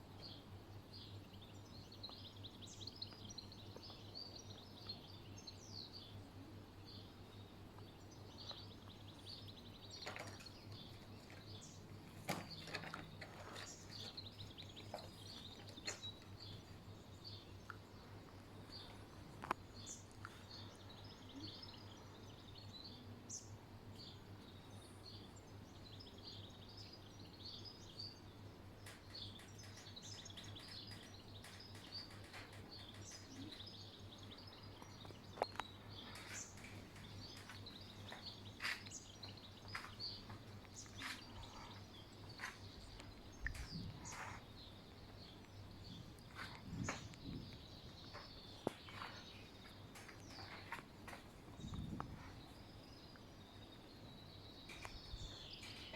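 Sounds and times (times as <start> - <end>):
faint birds chirping: 0.0 - 55.9.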